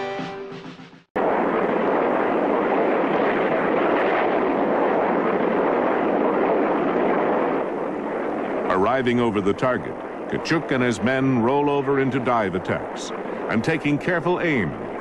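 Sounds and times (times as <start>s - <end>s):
jet fighter engines roaring: 1.2s - 15.0s.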